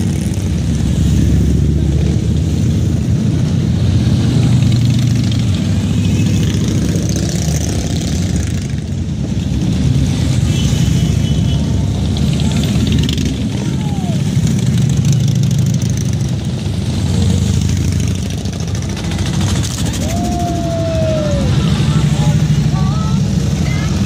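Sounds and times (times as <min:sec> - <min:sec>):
motorcycles riding past: 0:00.0 - 0:24.0.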